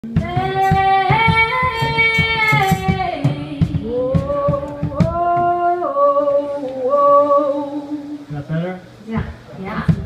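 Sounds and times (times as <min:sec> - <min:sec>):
women singing in harmony: 0:00.1 - 0:08.3.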